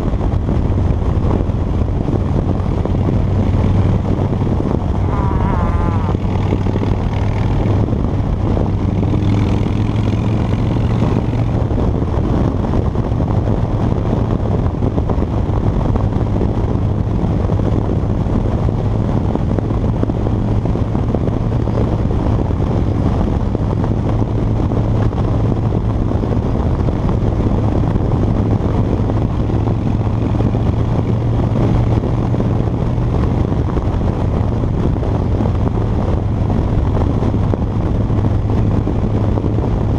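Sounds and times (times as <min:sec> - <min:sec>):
motorcycle engine droning: 0:00.0 - 0:39.9
wind and road noise: 0:00.0 - 0:39.9.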